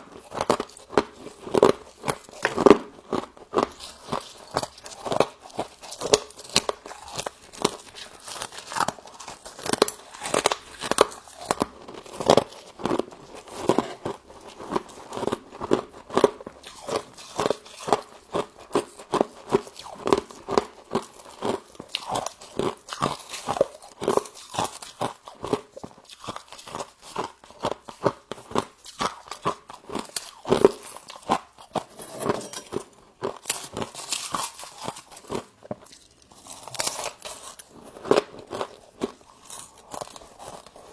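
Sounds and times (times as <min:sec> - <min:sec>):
crunching and chewing frost: 0:00.0 - 0:40.9.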